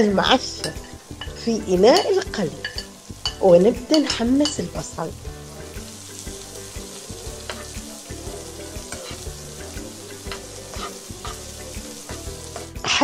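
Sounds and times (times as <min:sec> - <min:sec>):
green onions sizzling in a pan: 0:00.0 - 0:13.0
metal spoon scraping a pan: 0:00.4 - 0:12.8.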